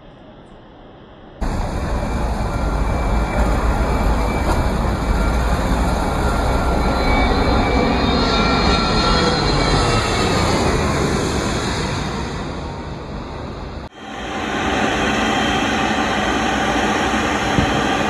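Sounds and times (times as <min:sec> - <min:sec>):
jet engines running: 0:00.2 - 0:18.0.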